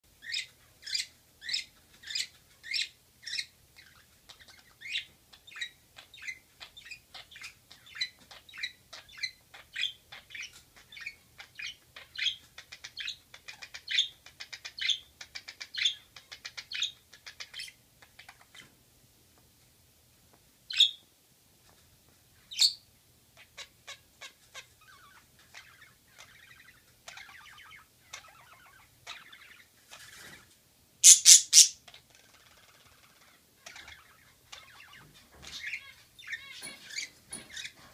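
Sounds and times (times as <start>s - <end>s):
budgerigars chirping and chattering: 0.2s - 18.7s, 20.7s - 21.0s, 23.4s - 30.4s, 31.0s - 37.8s.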